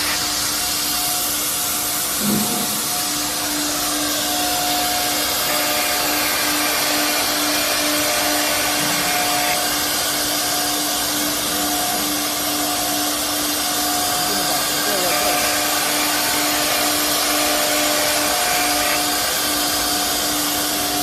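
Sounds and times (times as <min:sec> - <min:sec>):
cnc router running: 0:00.0 - 0:21.0.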